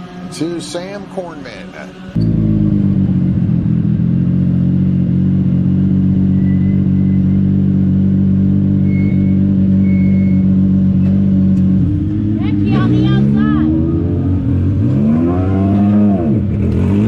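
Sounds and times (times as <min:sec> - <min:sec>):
race car engine running: 0:02.2 - 0:17.0.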